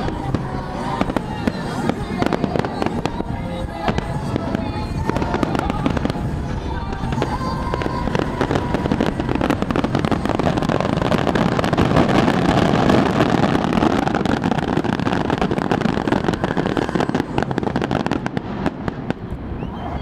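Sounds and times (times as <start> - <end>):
fireworks crackling pops: 0.0 - 20.0
rumble of firework bursts: 0.0 - 20.0.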